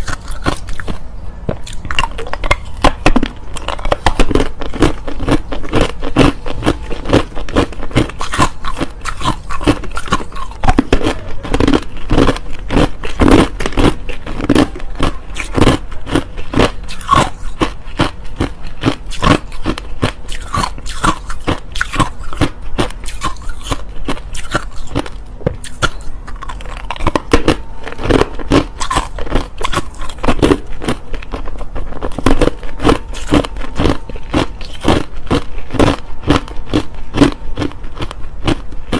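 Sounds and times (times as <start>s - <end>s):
person crunching ice: 0.0s - 1.0s, 1.6s - 38.9s.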